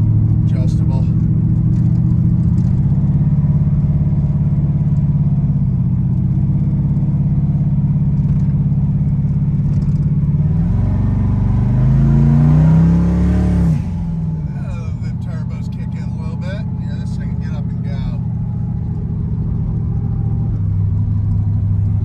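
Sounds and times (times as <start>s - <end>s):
truck engine accelerating: 0.0s - 22.0s.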